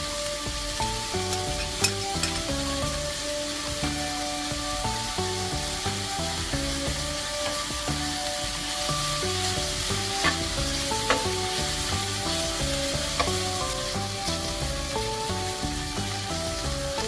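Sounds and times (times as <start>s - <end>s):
food sizzling in frying pan: 0.0s - 17.0s.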